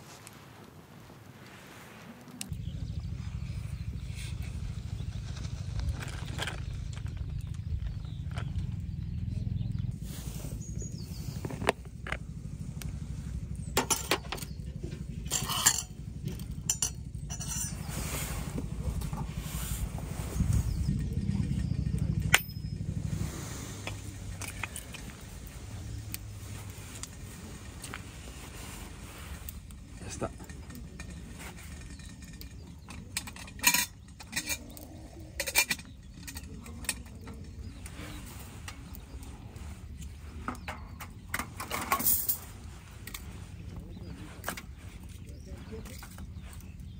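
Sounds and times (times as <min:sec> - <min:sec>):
low rumble: 0:02.5 - 0:41.6.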